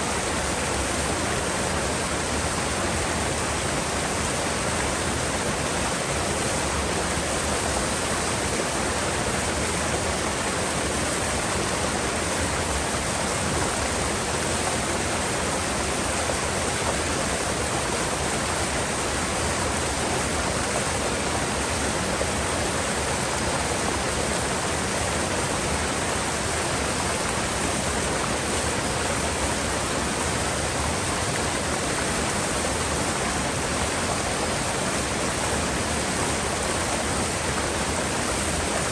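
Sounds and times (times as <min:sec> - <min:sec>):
river water rushing over rocks: 0:00.0 - 0:38.9.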